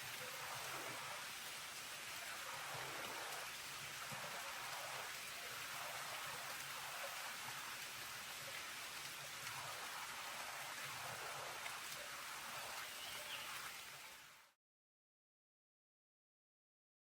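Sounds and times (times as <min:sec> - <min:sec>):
steady rain falling: 0:00.0 - 0:14.6.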